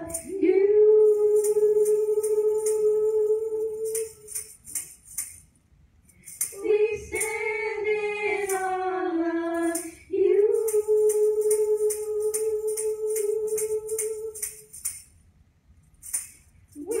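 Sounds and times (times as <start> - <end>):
tambourine jingling: 0.0 - 17.0.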